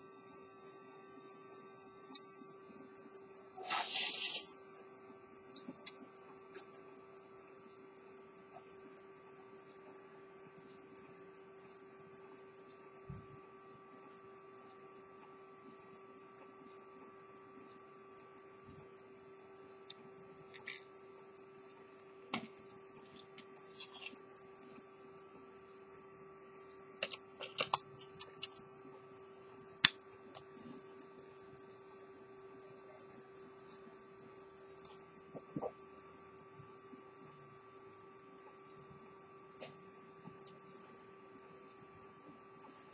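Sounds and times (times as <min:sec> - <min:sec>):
low electrical hum: 0:00.0 - 0:42.9
pocket watch ticking: 0:05.0 - 0:25.1, 0:26.3 - 0:42.9.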